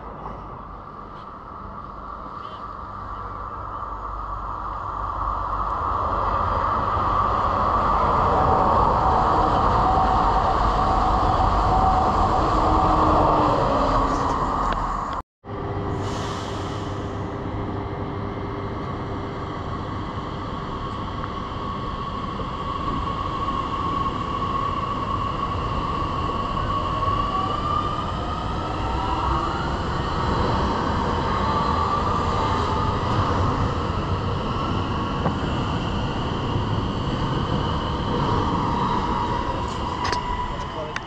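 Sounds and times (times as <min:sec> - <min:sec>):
train rail rumble: 0:00.0 - 0:41.0.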